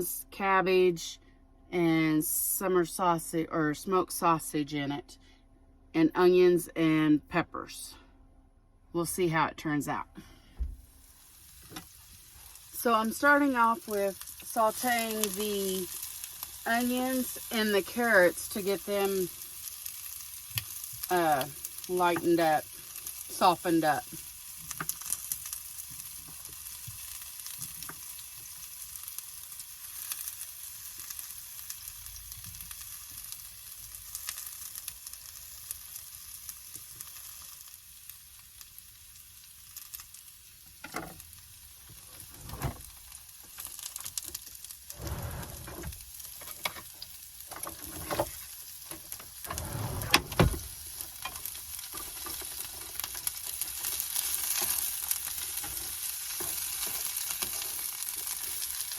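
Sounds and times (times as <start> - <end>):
vegetables sizzling in a pan: 10.8 - 58.9.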